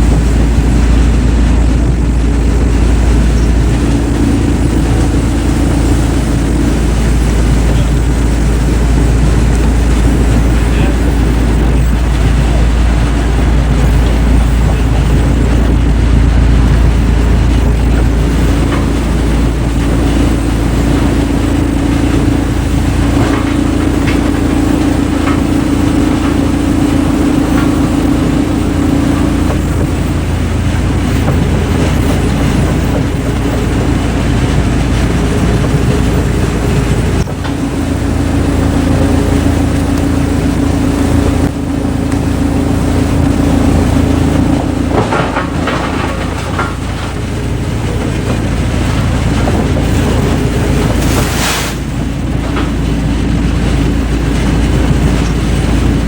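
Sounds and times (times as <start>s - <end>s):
large machine humming and rumbling: 0.0s - 56.0s.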